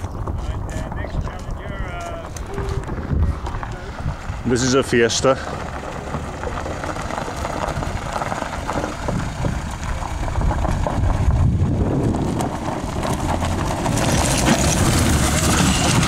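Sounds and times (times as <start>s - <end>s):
stones crunching under tyres: 0.0s - 16.0s
car engine running: 2.2s - 16.0s.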